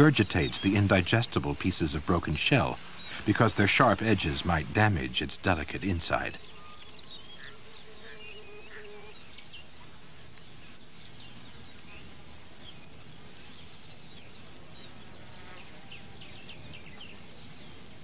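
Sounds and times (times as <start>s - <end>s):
faint bird chirps: 0.0s - 18.0s
insect chirring: 0.0s - 18.0s.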